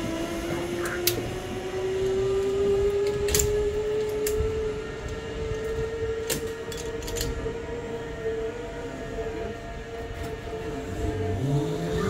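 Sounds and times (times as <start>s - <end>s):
zip-line pulleys whining on cable: 0.0s - 12.0s.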